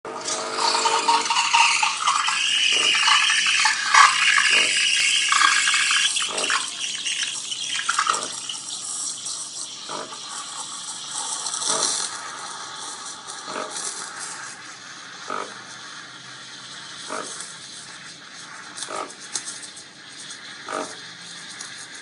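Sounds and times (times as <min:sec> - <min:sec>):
espresso machine hissing and gurgling: 0:00.1 - 0:22.0.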